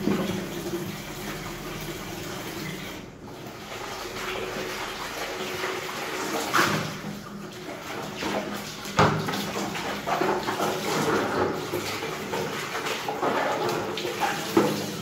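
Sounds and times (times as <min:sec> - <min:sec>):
tap water running and splashing: 0:00.0 - 0:15.0.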